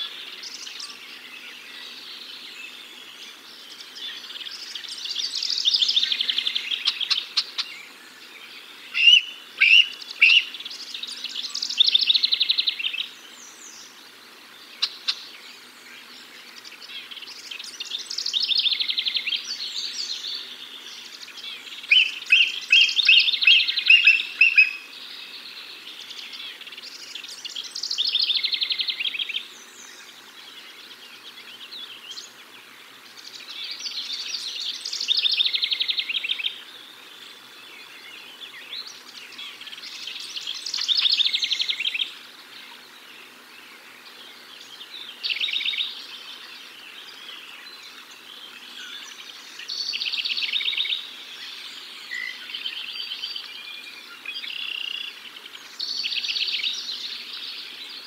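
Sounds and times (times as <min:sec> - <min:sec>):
songbirds trilling: 0:00.0 - 0:58.0.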